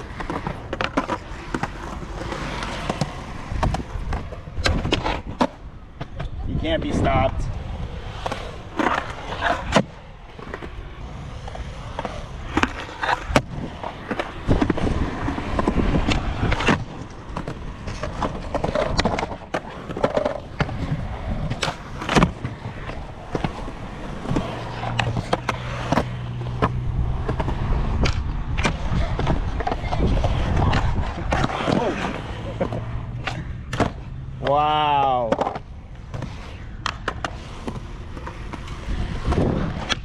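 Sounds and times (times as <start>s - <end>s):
skateboard clacks: 0.0s - 40.0s
skateboard rolling: 0.0s - 40.0s.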